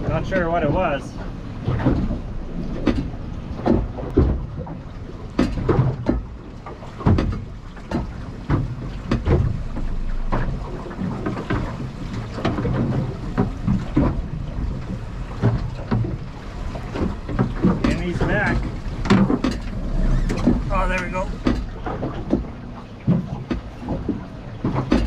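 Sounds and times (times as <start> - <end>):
low rumble: 0.0 - 5.4, 8.6 - 24.7
waves slapping boat hull: 0.0 - 25.0
wind buffeting microphone: 0.0 - 25.0.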